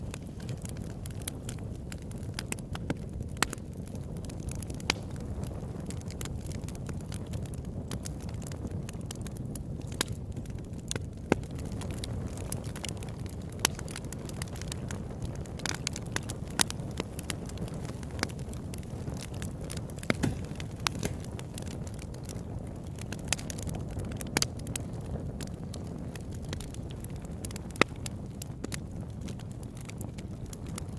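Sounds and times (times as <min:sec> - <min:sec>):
campfire flame rumble: 0:00.0 - 0:30.9
fire crackling and popping: 0:00.0 - 0:30.9.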